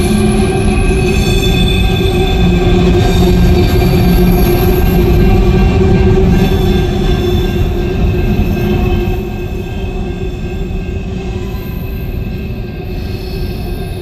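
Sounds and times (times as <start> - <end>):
rail cars rumbling: 0.0 - 14.0
steel wheels squealing on rails: 0.0 - 14.0.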